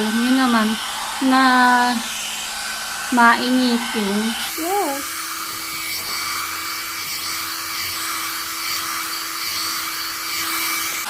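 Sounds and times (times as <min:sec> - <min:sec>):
hot air brush running: 0:00.0 - 0:11.0.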